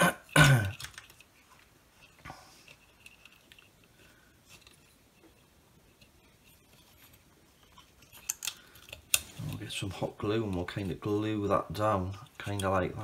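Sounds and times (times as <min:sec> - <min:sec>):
handling small parts on bench mat: 0:00.7 - 0:13.0.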